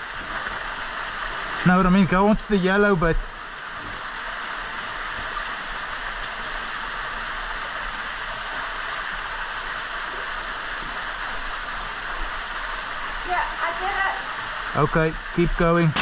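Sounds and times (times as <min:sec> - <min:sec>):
creek water rushing over rocks: 0:00.0 - 0:16.0.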